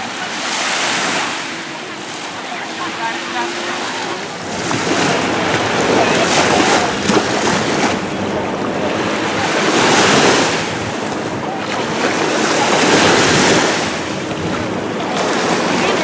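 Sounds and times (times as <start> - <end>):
sea waves washing in: 0.0 - 16.0
wind buffeting microphone: 0.7 - 16.0.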